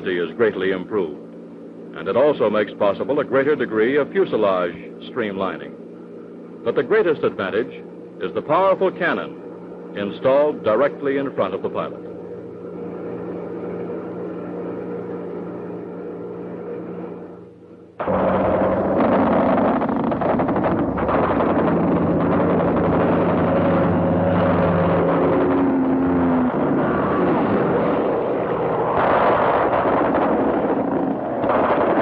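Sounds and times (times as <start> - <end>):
propeller plane engine roar: 0.0 - 32.0.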